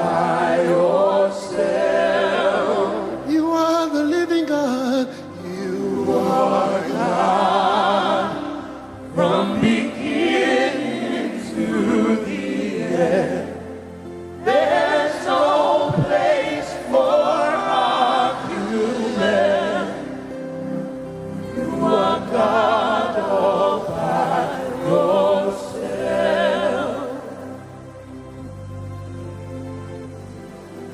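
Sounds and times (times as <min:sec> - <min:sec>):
voices singing gospel song: 0:00.0 - 0:28.5.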